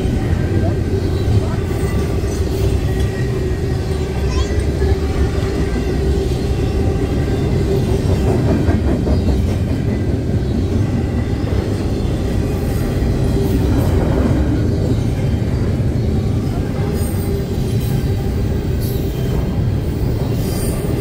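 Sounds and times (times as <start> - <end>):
freight train rumbling: 0.0 - 21.0.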